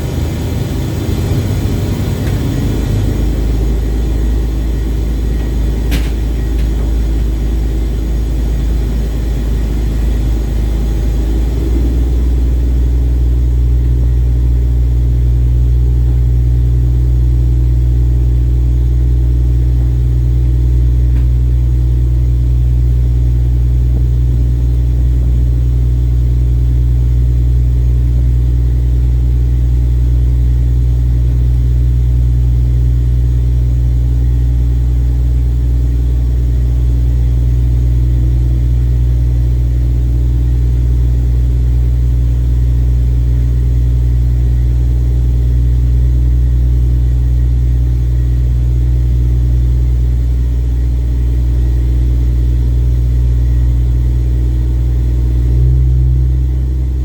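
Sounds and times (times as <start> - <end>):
ship engine droning: 0.0 - 57.0.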